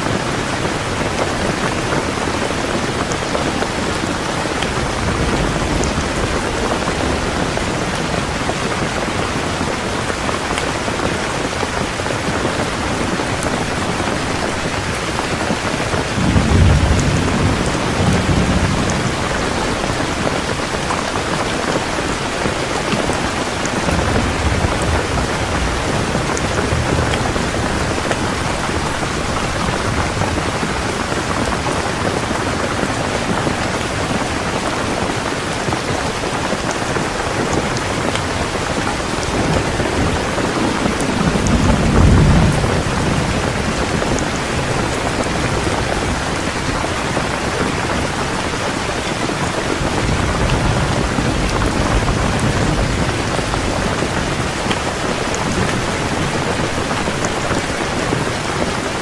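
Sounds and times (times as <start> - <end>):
heavy rain pouring: 0.0 - 59.0
low roll of thunder: 0.8 - 10.2, 13.0 - 34.5, 36.8 - 48.2, 49.4 - 58.4.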